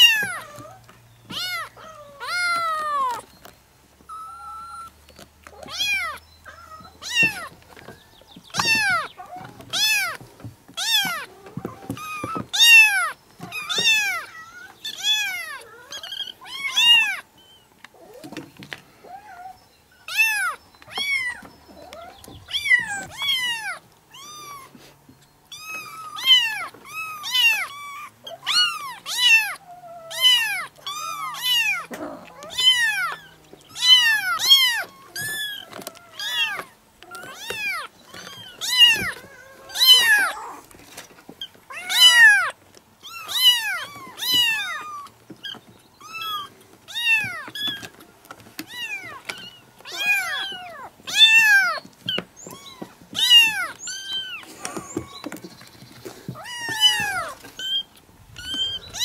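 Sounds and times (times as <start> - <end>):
kittens meowing: 0.0 - 3.3, 4.0 - 18.3, 19.0 - 59.0.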